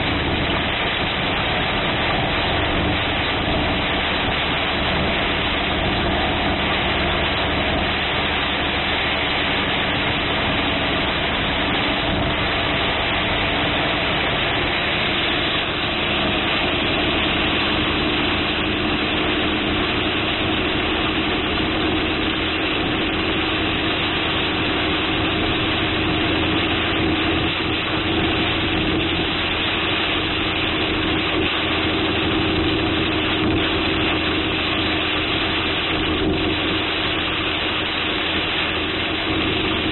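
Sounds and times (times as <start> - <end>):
car engine idling: 0.0 - 39.9
heavy rain on car roof: 0.0 - 39.9.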